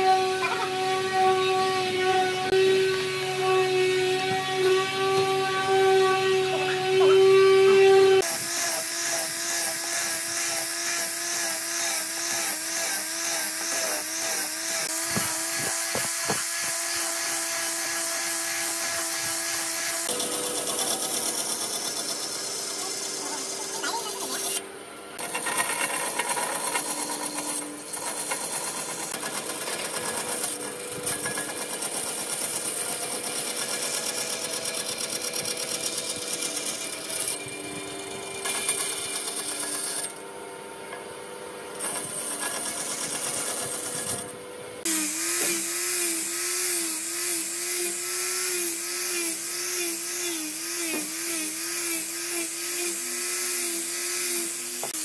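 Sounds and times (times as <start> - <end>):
disc sander whining: 0.0 - 31.8, 41.9 - 55.0
band saw cutting wood: 0.0 - 41.0, 41.6 - 55.0.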